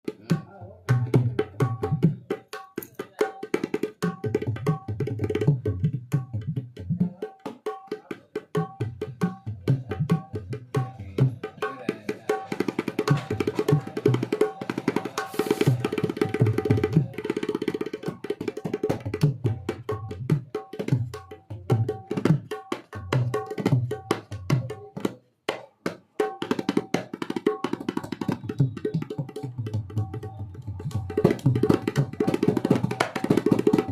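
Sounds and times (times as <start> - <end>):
hand drum played: 0.1 - 33.9.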